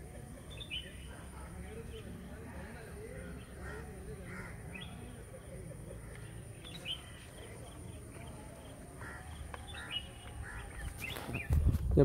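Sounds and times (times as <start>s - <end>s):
small birds chirping: 0.0s - 11.8s.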